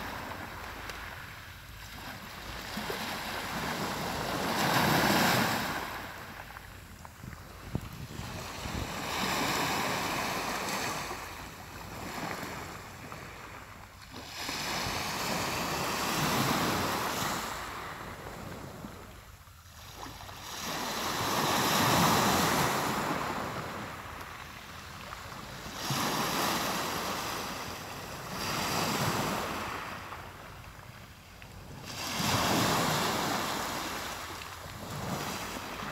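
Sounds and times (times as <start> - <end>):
sea waves breaking on shore: 0.0 - 19.2, 19.8 - 35.9.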